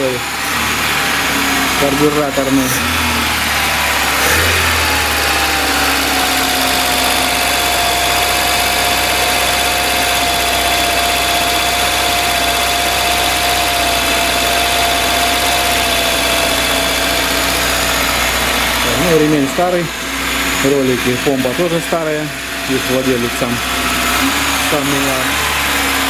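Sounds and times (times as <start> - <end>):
car engine idling: 0.0 - 26.0
steady whine: 0.0 - 26.0.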